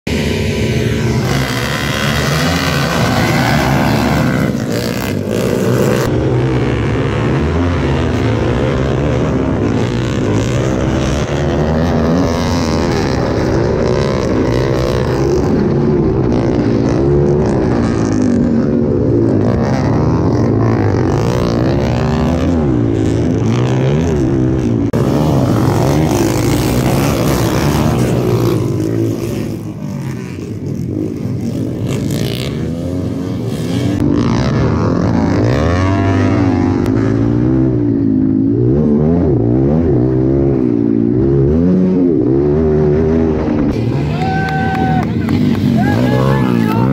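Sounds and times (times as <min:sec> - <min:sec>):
dirt bike engines revving: 0:00.1 - 0:46.9.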